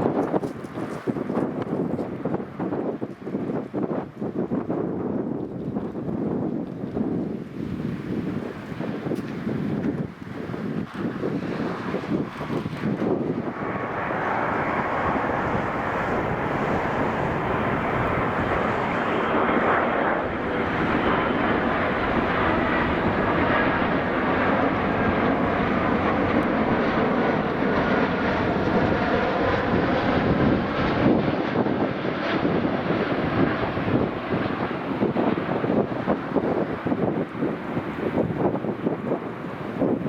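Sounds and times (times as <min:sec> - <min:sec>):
faint jet engine whine: 0:00.0 - 0:40.0
jet engines rushing: 0:00.0 - 0:40.0.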